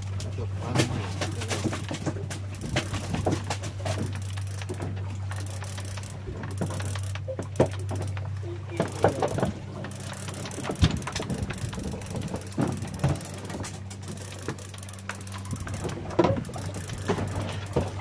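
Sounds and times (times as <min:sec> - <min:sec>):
boat engine humming: 0:00.0 - 0:18.0
fishing reel ratchet clicking: 0:01.2 - 0:18.0.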